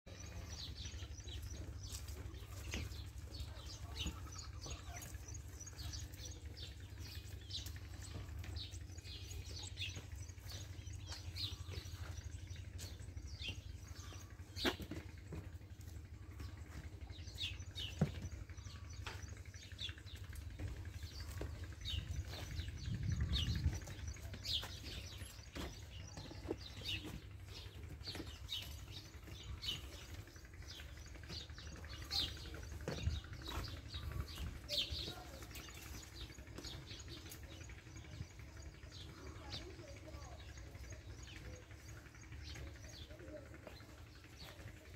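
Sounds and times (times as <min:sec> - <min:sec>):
small birds chirping: 0:00.1 - 0:44.9
low rumble: 0:00.2 - 0:39.4.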